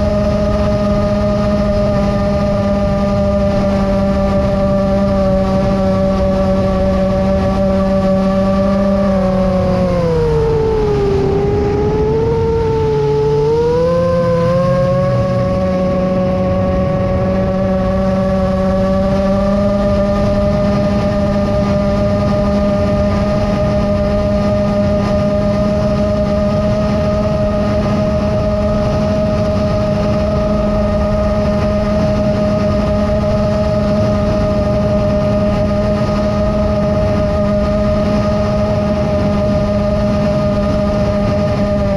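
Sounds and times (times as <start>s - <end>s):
drone motors whining: 0.0s - 41.9s
wind rushing: 0.0s - 41.9s.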